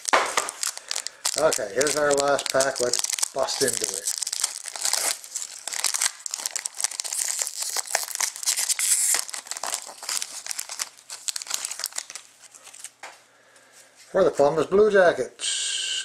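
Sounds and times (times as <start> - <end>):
foil wrapper crinkling: 0.0 - 13.0.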